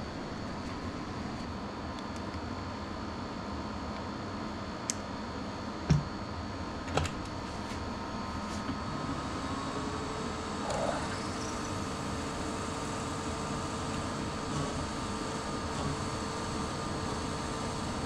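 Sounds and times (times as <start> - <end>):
machine hum with high whine: 0.0 - 18.0.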